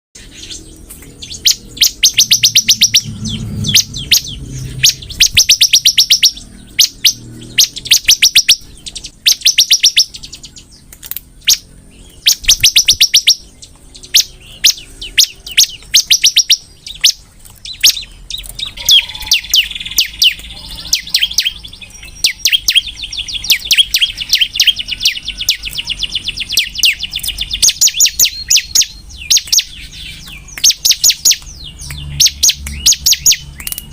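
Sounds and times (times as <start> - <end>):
bird chirping rapidly: 0.2 - 33.9
bird trill: 0.2 - 33.9.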